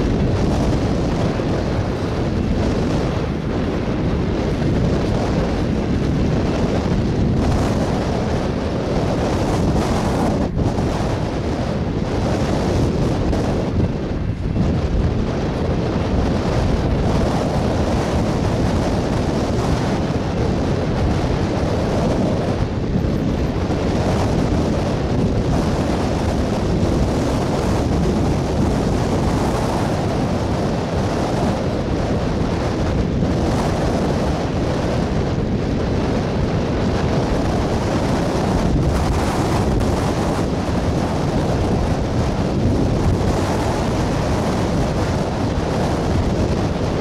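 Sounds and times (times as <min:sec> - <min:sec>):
train cars rumbling on rails: 0:00.0 - 0:47.0
wind on microphone: 0:00.0 - 0:47.0.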